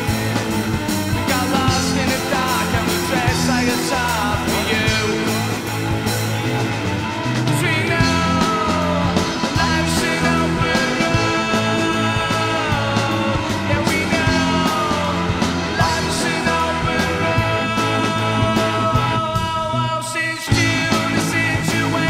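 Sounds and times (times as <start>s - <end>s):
drum beat: 0.0s - 19.6s
bass: 0.0s - 22.0s.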